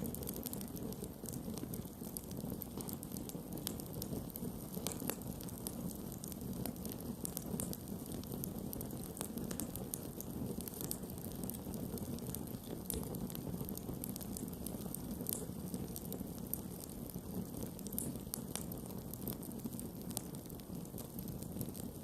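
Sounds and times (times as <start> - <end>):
burning wood crackling and popping: 0.0 - 22.0
flames rushing: 0.0 - 22.0.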